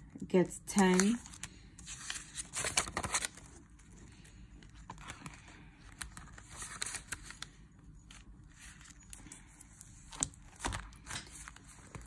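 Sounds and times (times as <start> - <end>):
paper banknotes rustling: 0.8 - 12.0.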